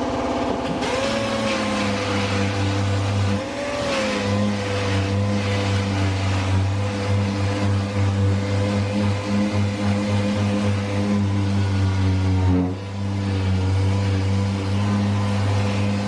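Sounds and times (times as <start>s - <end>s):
orbital sander whine: 0.0s - 16.0s.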